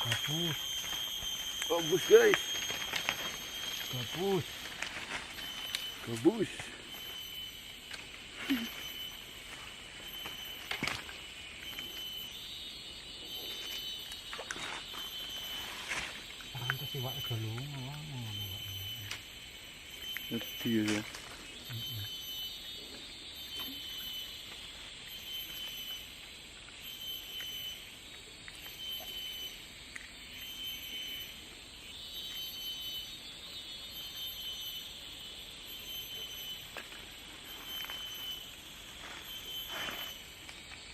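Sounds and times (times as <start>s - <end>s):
pulsing high tone: 0.0s - 26.2s, 30.3s - 40.5s
forest insects droning: 0.0s - 40.9s
high insect buzzing chorus: 0.0s - 40.9s.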